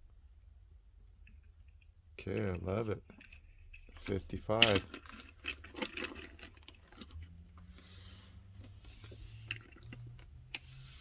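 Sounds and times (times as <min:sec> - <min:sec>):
handling clicks and rubbing: 0:01.2 - 0:11.0.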